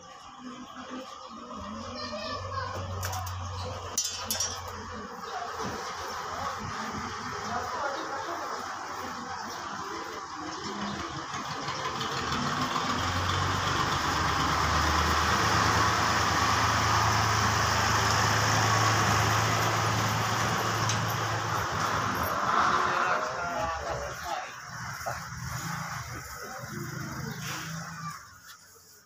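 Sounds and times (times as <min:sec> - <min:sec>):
motor engine humming: 0:00.0 - 0:28.6.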